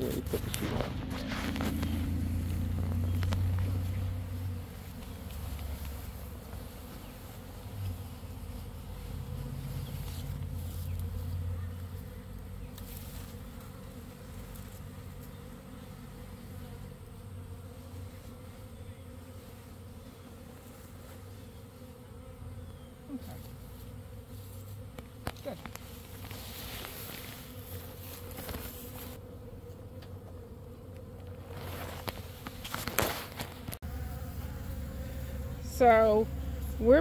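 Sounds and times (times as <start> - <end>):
bee swarm buzzing: 0.0 - 37.0.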